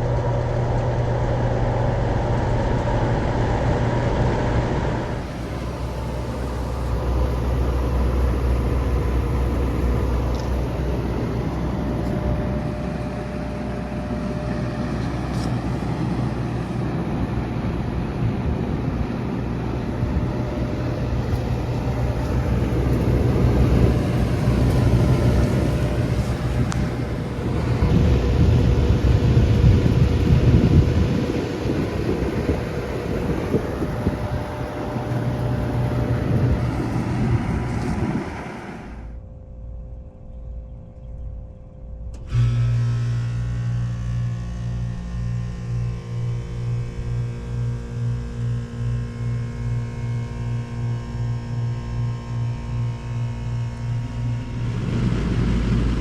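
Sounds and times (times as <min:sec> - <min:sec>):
fan air rushing: 0:00.0 - 0:41.1, 0:41.8 - 0:56.0
air conditioner hum: 0:00.0 - 0:56.0.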